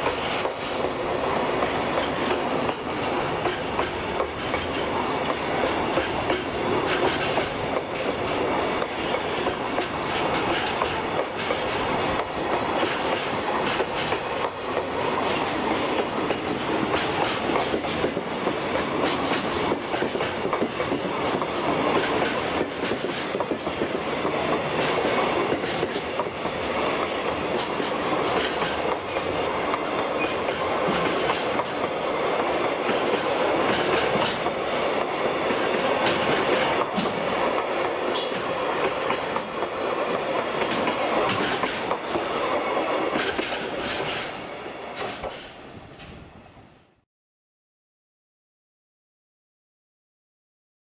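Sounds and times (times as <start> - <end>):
wheels clickety-clack over rail joints: 0.0 - 46.8
freight train rolling past: 0.0 - 47.0.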